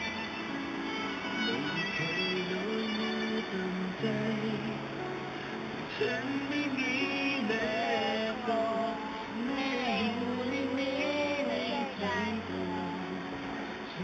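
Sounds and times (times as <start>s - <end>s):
backing music: 0.0s - 14.0s
person singing: 1.2s - 14.0s.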